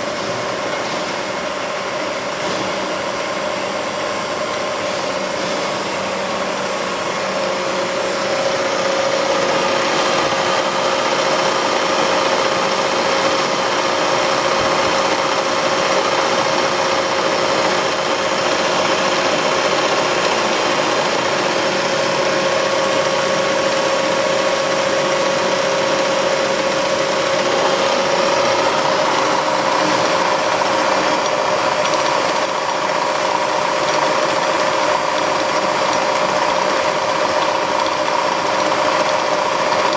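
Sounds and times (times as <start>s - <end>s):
drill motor humming: 4.8s - 39.9s.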